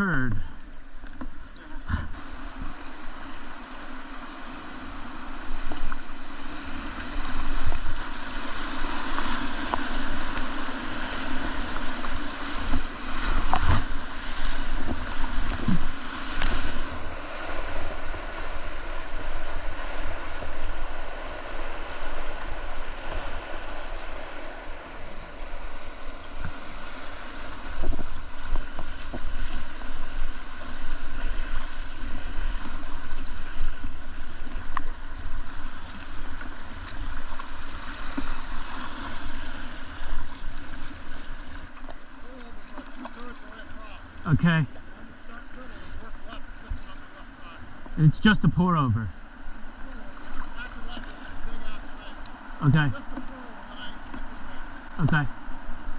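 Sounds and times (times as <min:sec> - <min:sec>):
whitewater rushing: 0:01.5 - 0:49.0, 0:49.7 - 0:55.9.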